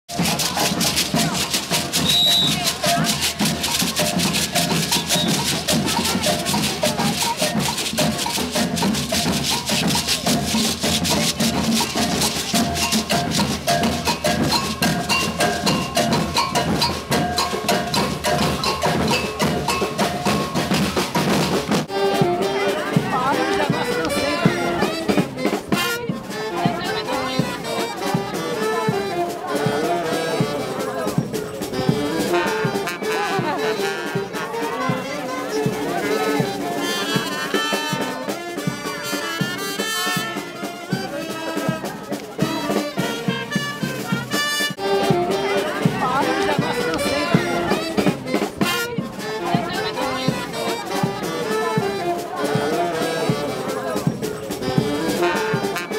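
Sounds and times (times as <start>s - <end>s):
drum corps playing fast percussion: 0.1s - 55.9s
trumpet and trombone lines: 0.1s - 55.9s.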